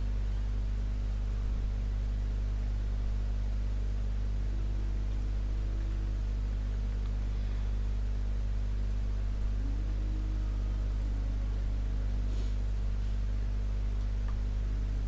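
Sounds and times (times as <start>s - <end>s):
low electrical hum with hiss: 0.0s - 15.0s.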